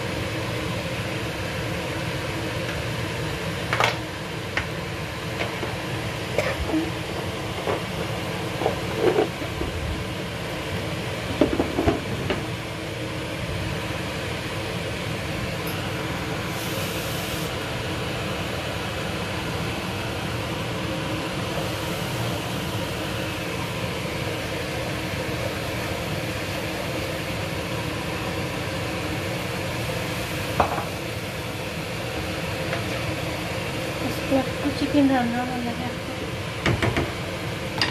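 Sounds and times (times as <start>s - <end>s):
onions sizzling in frying pan: 0.0s - 37.9s.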